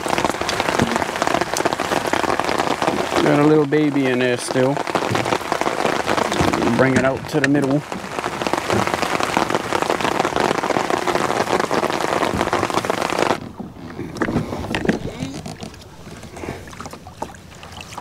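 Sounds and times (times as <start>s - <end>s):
rain pattering on umbrella: 0.0s - 18.0s
water sounds: 0.0s - 18.0s.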